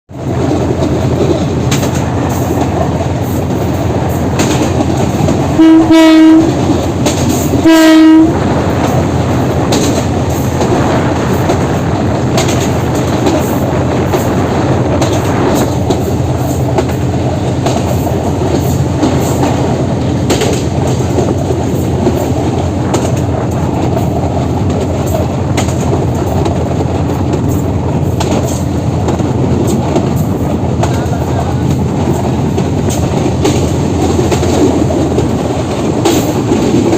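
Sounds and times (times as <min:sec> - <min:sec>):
diesel locomotive hum: 0:00.1 - 0:36.9
rail joint clicks and knocks: 0:00.1 - 0:36.9
train wheels rumbling on rails: 0:00.1 - 0:36.9.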